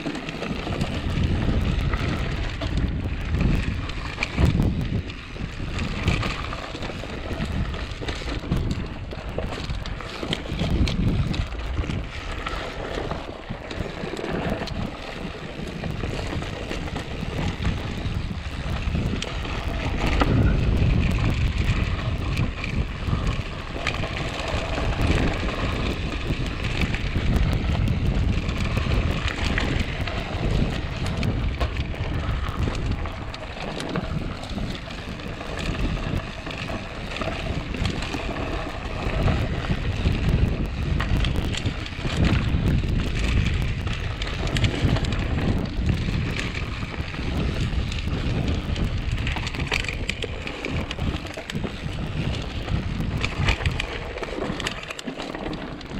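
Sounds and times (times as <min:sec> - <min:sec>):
bike tyres rumbling on dirt trail: 0:00.0 - 0:55.9
wind buffeting microphone: 0:00.0 - 0:55.9.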